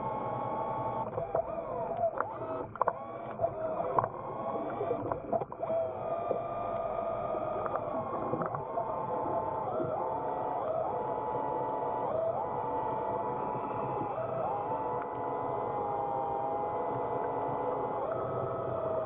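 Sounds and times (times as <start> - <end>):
electric thrusters whining underwater: 0.9 - 19.0.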